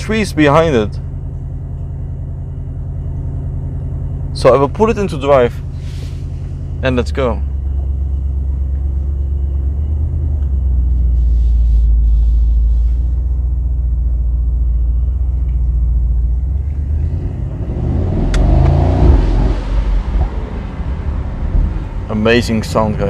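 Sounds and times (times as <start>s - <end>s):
car engine exhaust rumble: 0.0s - 23.0s.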